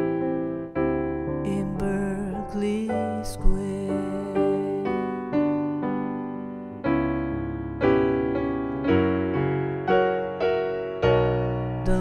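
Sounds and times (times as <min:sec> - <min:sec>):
electronic piano chords: 0:00.0 - 0:12.0
piano bass notes: 0:00.0 - 0:12.0.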